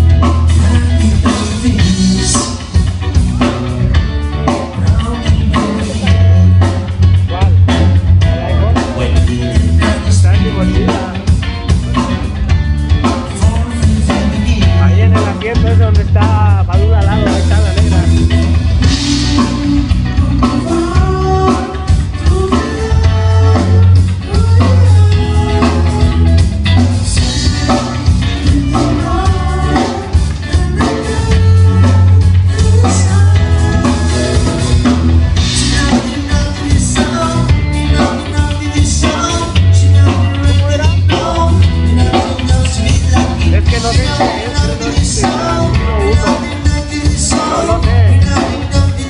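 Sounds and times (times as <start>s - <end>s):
bass line: 0.0s - 49.0s
drum kit: 0.0s - 49.0s
guitar: 0.0s - 49.0s
person singing: 0.0s - 49.0s.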